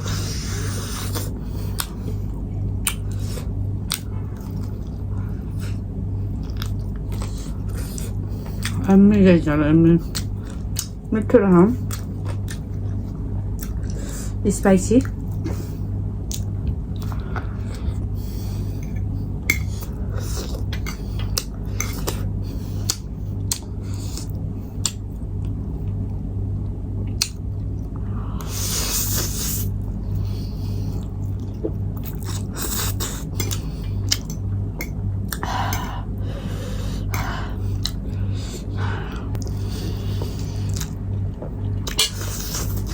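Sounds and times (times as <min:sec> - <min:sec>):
wet chewing and smacking: 0:00.6 - 0:08.9, 0:10.0 - 0:11.1, 0:11.8 - 0:14.0, 0:15.0 - 0:26.2, 0:27.1 - 0:28.0, 0:29.1 - 0:36.0, 0:37.1 - 0:42.9.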